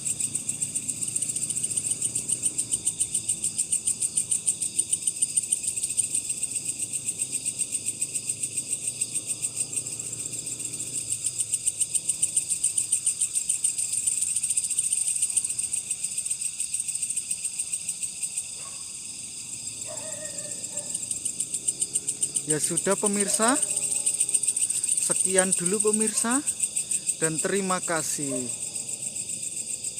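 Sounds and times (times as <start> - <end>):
cricket chirping: 0.0 - 29.9.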